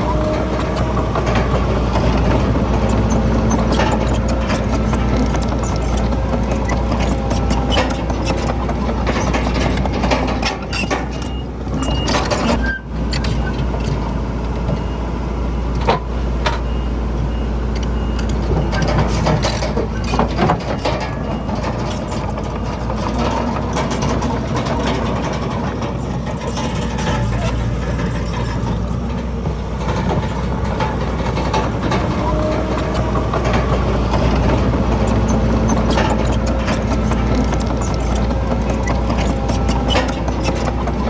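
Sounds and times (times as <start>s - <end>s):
diesel machinery engine rumble: 0.0s - 41.0s.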